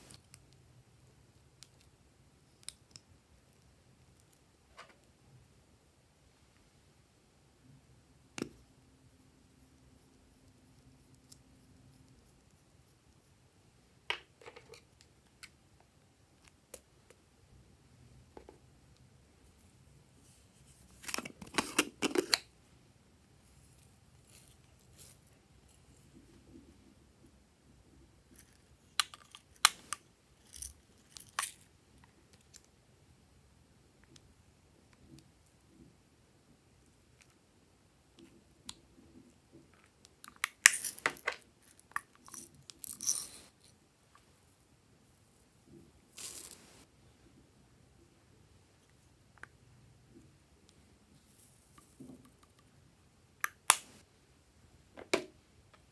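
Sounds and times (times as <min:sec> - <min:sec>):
faint scratchy sounds: 0:00.0 - 0:55.9.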